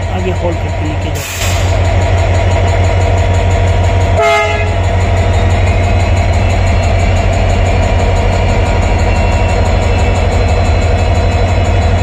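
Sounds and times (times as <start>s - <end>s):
diesel locomotive idling: 0.0s - 12.0s.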